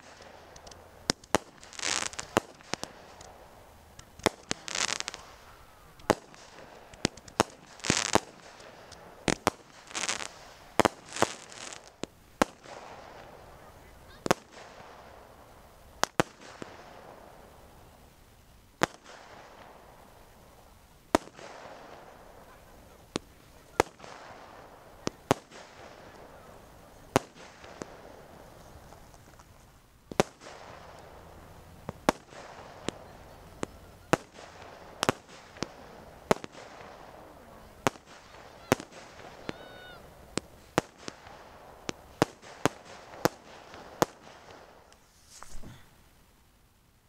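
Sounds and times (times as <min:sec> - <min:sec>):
fireworks bangs: 0:00.0 - 0:18.0, 0:18.8 - 0:46.0.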